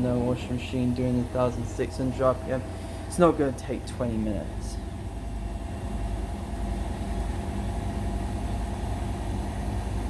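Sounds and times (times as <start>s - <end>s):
washing machine spinning: 0.0s - 10.0s.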